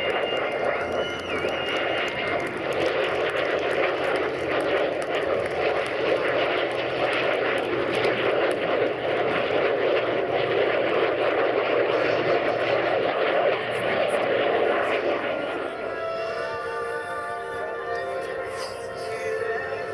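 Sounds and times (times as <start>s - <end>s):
aircraft engines flying past: 0.0s - 19.9s.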